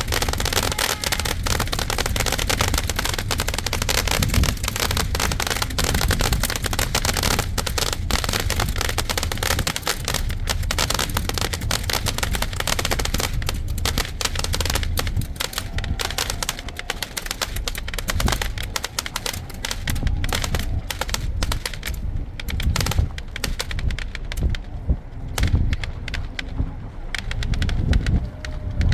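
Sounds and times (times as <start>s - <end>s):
fireworks cracks and bangs: 0.0s - 28.9s
low rumble: 0.0s - 28.9s.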